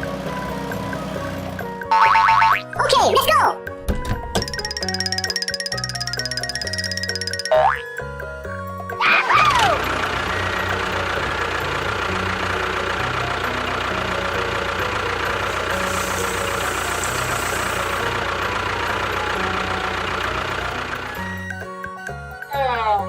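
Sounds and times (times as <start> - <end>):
small engine whining: 0.0 - 2.8, 3.6 - 23.0.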